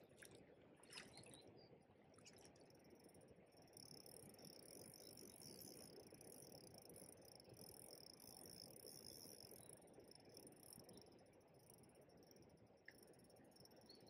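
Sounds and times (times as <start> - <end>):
insects chirring: 2.2 - 14.0.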